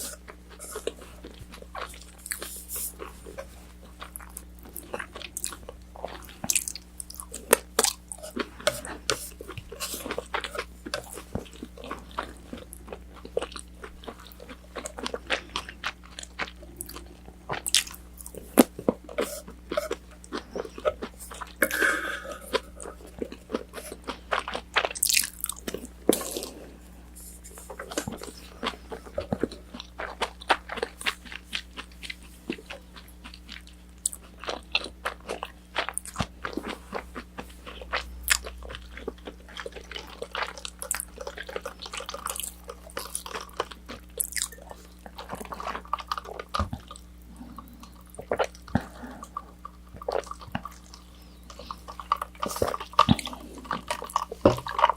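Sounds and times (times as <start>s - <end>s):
crunching and chewing fried chicken: 0.0s - 54.9s
faint low hum: 0.0s - 54.9s.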